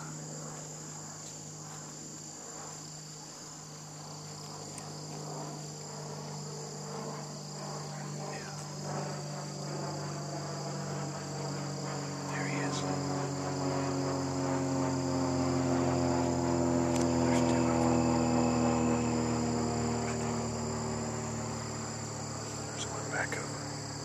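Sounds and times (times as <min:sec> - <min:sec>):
insects trilling: 0:00.0 - 0:24.0
low steady hum: 0:00.0 - 0:24.0.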